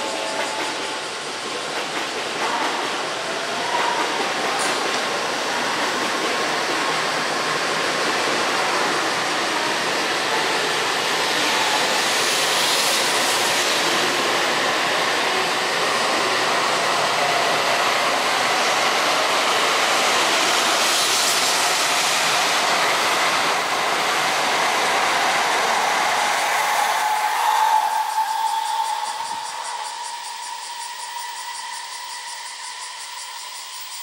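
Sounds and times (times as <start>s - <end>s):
high-speed train passing: 0.0s - 34.0s.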